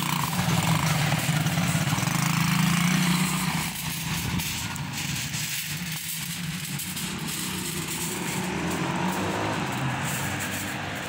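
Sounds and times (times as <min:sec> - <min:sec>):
engine running with hum and hiss: 0:00.0 - 0:11.0.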